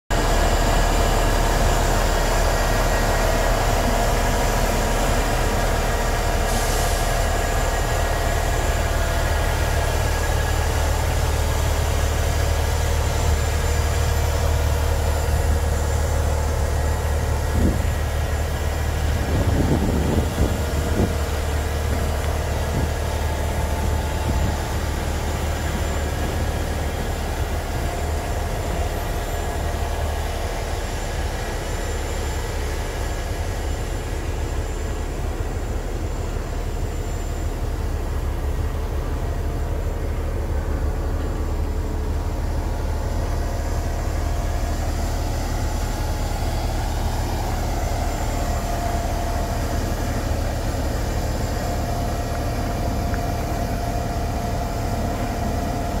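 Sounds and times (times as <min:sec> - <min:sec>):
diesel engine idling: 0:00.1 - 0:56.0.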